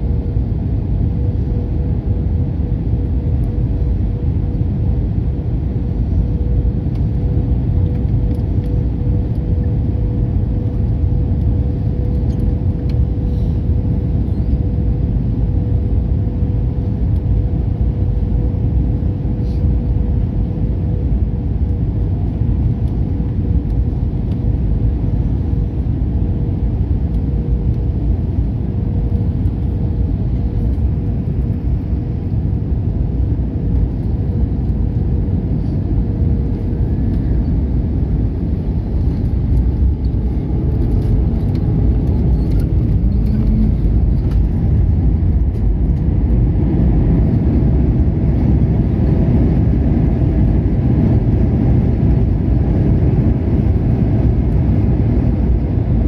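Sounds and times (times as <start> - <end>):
faint hum: 0.0 - 56.0
jet engines and airflow rushing: 0.0 - 56.0.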